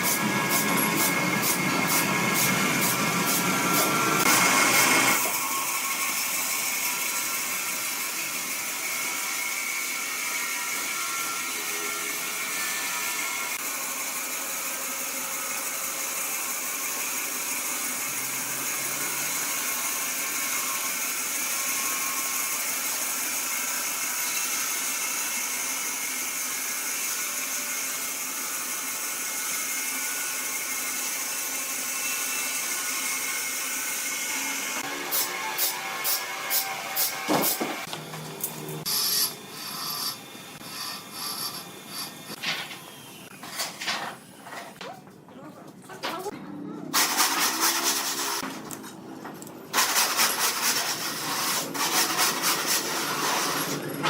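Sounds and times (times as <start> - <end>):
woodworking machinery hissing: 0.0 - 44.6, 47.0 - 48.5, 49.7 - 54.0.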